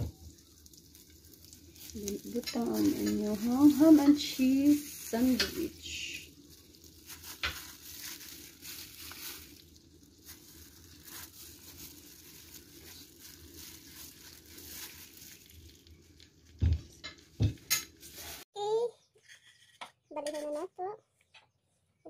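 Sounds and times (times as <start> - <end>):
plastic glove crinkling: 0.0 - 18.5
sandwiches sizzling in butter: 0.0 - 18.5.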